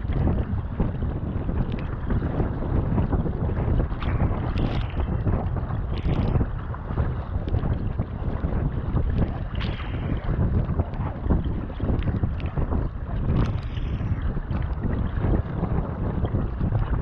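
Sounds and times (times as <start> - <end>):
choppy sea water rushing: 0.0 - 17.0
paddle splashing: 0.0 - 17.0
wind buffeting microphone: 0.0 - 17.0.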